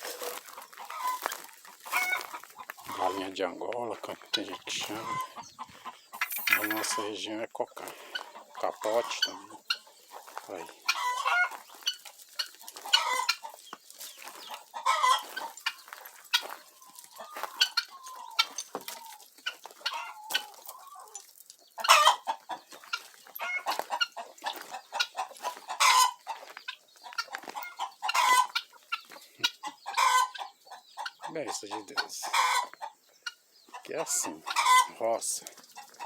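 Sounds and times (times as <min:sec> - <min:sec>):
guinea fowl calling: 0:00.1 - 0:21.2, 0:21.8 - 0:36.0.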